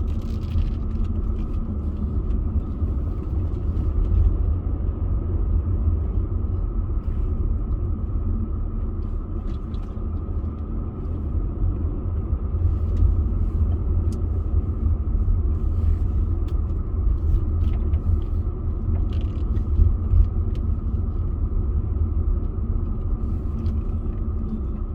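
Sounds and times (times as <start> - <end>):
car engine and road rumble: 0.0 - 24.9.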